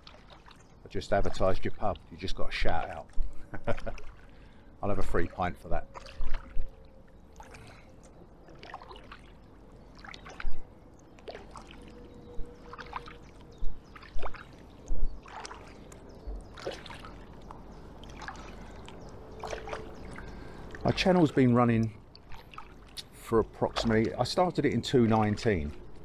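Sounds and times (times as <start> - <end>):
kayak paddle splashing: 0.0 - 0.8, 2.7 - 26.0
water trickling: 0.0 - 26.0.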